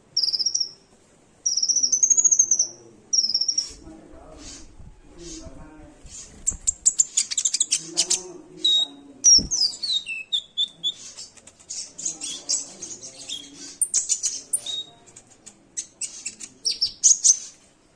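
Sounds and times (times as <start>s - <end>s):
bird chirping and twittering: 0.2s - 0.8s, 1.4s - 17.6s.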